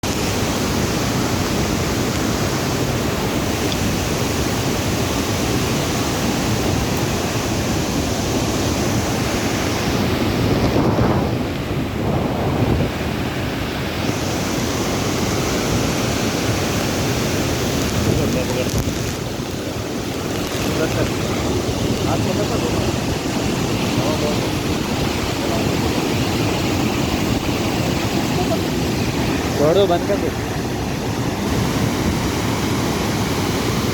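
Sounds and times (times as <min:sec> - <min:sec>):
waterfall roaring: 0:00.0 - 0:33.9
wind buffeting microphone: 0:00.1 - 0:33.9.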